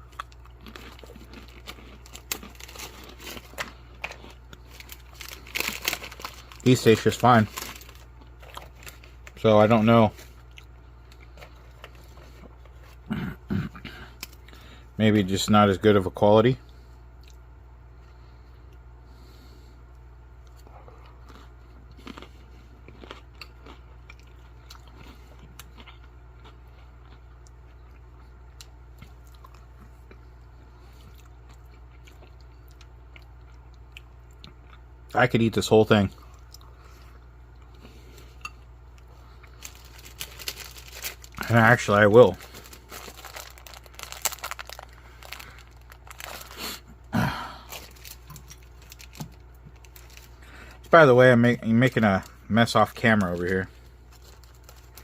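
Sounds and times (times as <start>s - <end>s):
person chewing crunchy food: 0.0s - 14.6s, 20.4s - 35.1s, 36.2s - 51.0s, 53.2s - 55.0s
low steady hum: 0.0s - 55.0s.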